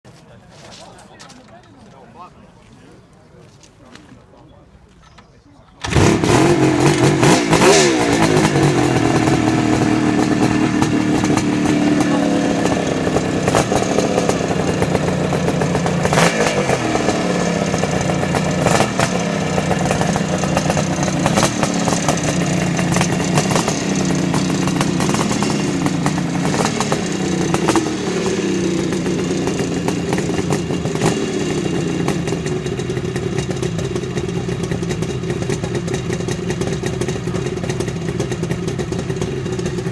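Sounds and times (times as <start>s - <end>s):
motorcycle engine revving: 5.8s - 39.9s.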